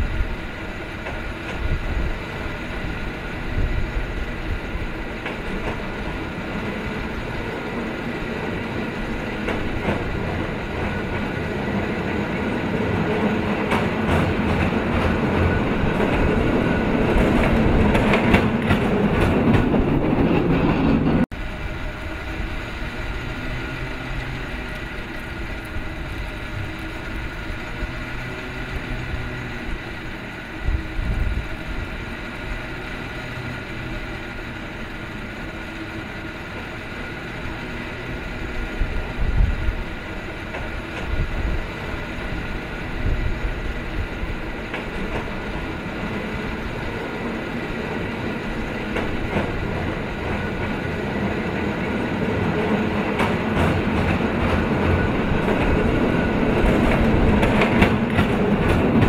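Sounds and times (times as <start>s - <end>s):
clicks and rattles of cable car: 0.0s - 21.2s, 22.0s - 59.0s
cable car rumbling on tracks: 0.0s - 59.0s.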